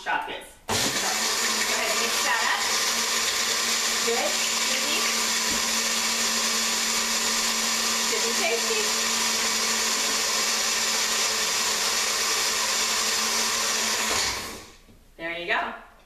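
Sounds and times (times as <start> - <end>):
blender blending ice: 0.7 - 14.8.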